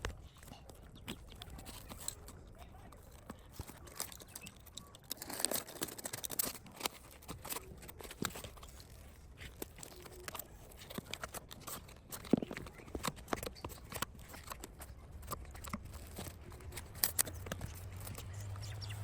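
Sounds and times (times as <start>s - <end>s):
small parts tapping and clicking: 0.0s - 19.0s.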